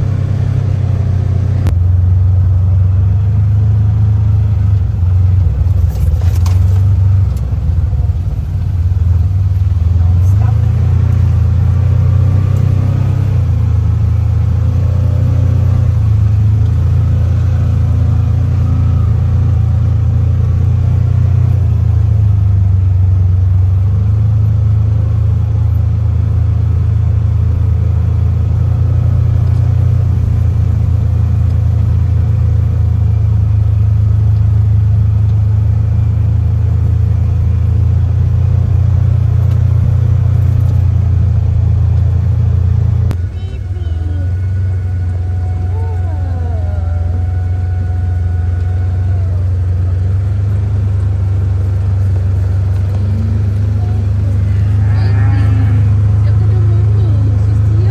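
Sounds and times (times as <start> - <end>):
vehicle engine and road drone: 0.0 - 57.9.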